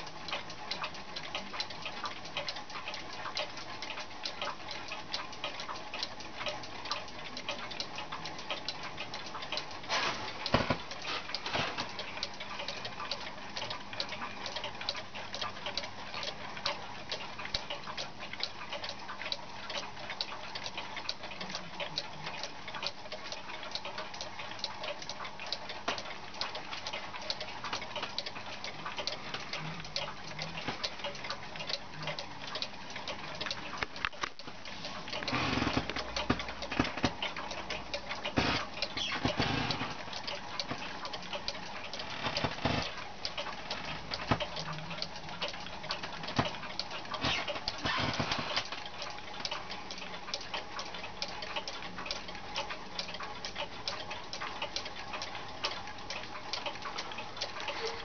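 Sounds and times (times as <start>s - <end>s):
clocks ticking: 0.0s - 58.0s.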